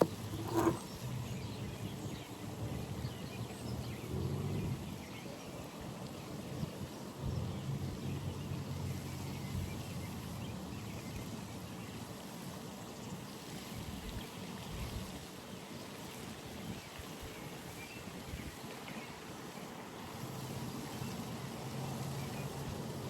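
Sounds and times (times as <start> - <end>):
running water trickling: 0.0 - 23.0.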